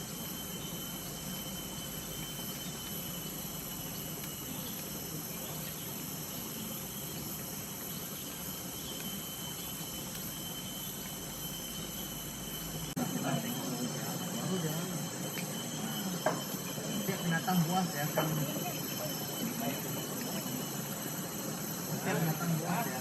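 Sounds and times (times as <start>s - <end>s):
tropical forest insects ringing: 0.0s - 23.0s.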